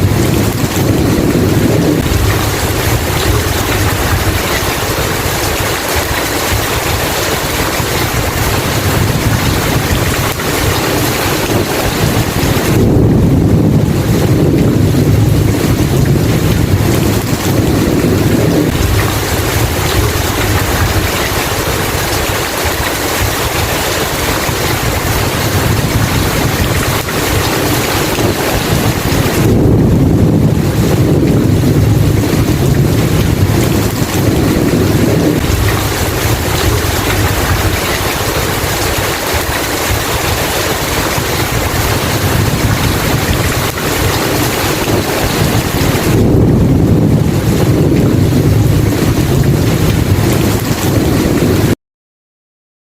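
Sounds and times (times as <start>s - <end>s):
heavy rain: 0.0s - 51.8s
rolling thunder: 0.0s - 51.8s.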